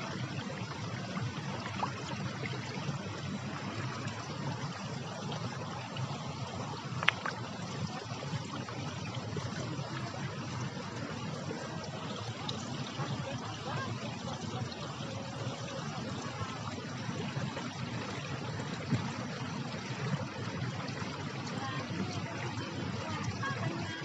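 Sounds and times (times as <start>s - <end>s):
water running over stone: 0.0s - 24.0s.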